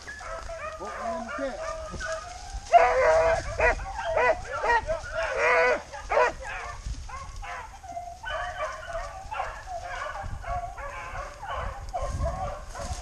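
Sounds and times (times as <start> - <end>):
hunting dogs baying: 0.0 - 13.0.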